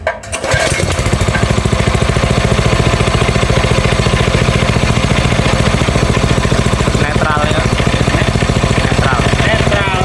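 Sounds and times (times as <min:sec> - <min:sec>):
drilling machine engine running: 0:00.3 - 0:10.0.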